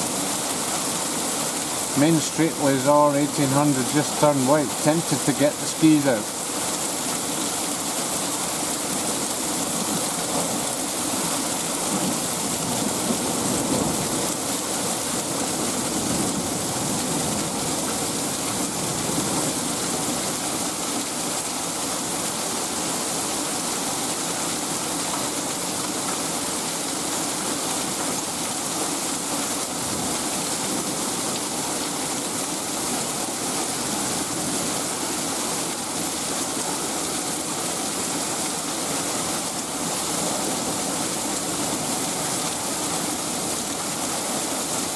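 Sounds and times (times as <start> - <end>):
hail and rain pelting down: 0.0 - 44.9.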